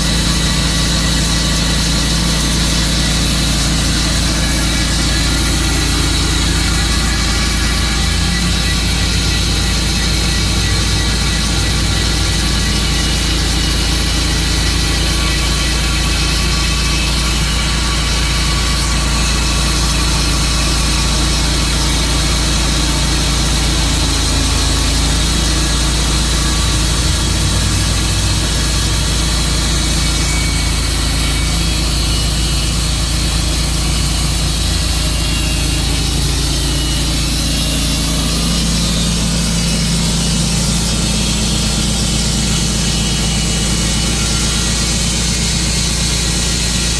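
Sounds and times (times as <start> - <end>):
sawing noise: 0.0 - 46.9
sawmill engine drone: 0.0 - 46.9.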